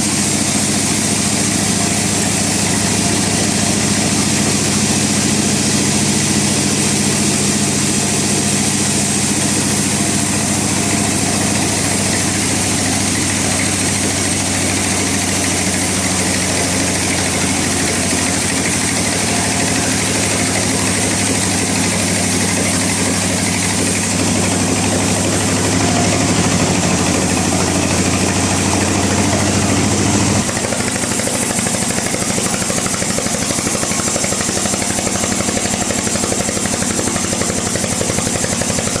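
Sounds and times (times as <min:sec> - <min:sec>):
motor hum: 0:00.0 - 0:39.0
saw blade cutting wood: 0:00.0 - 0:39.0.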